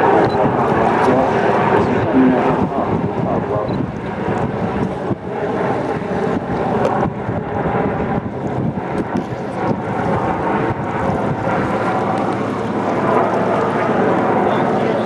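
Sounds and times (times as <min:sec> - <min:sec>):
boat engine running: 0:00.0 - 0:15.0
choppy water: 0:00.0 - 0:15.0
wind buffeting microphone: 0:00.0 - 0:15.0.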